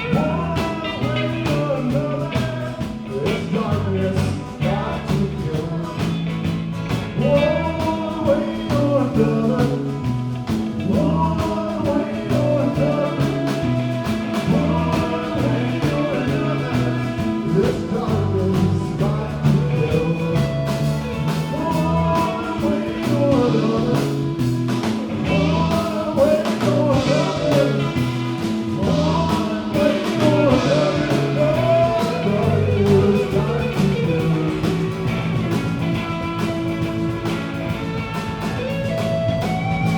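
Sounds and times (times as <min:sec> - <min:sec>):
bass line: 0:00.0 - 0:39.9
electric guitar: 0:00.0 - 0:39.9
person singing: 0:00.0 - 0:39.9
steady drum beat: 0:00.0 - 0:39.9.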